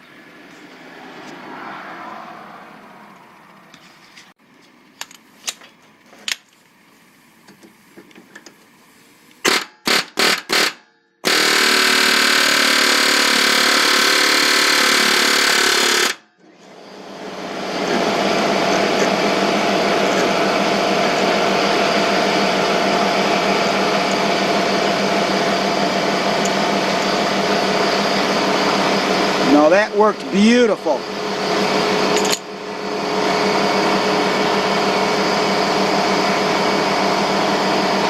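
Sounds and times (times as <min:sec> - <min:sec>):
steady mechanical noise: 0:02.6 - 0:38.0.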